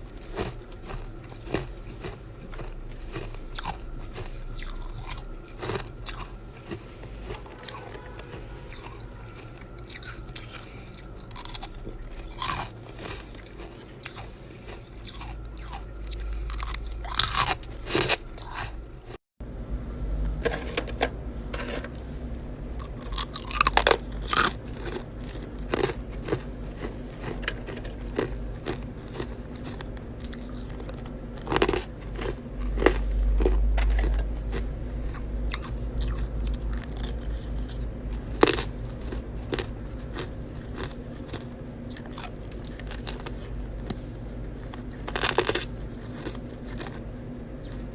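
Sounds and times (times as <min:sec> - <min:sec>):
ice being bitten and chewed: 0:00.0 - 0:19.2, 0:22.7 - 0:47.9
low rumble: 0:00.0 - 0:45.1.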